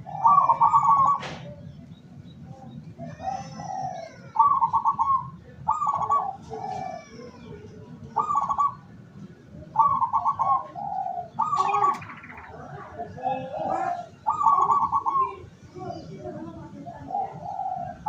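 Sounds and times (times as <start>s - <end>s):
dove cooing in trilled phrases: 0.0s - 1.5s, 3.0s - 9.0s, 9.6s - 18.0s.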